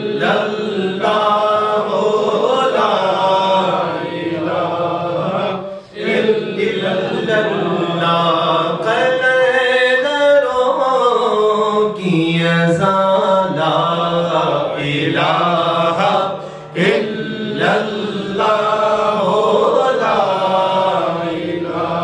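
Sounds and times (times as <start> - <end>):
man singing into a microphone: 0.0 - 3.8, 6.6 - 22.0.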